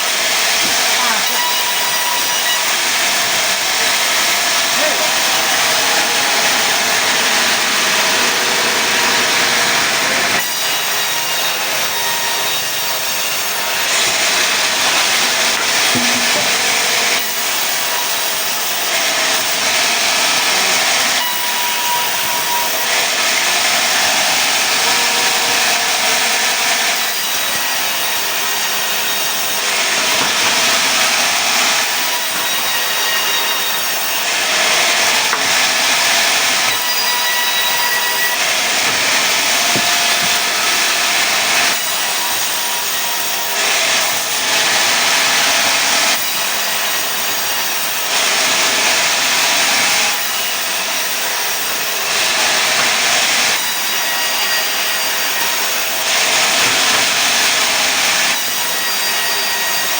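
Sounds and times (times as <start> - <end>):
saw cutting through timber: 0.0 - 59.9.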